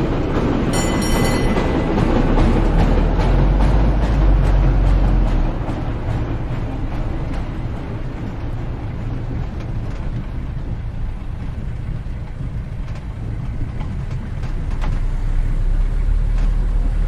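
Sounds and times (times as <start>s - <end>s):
streetcar rumbling: 0.0s - 17.0s.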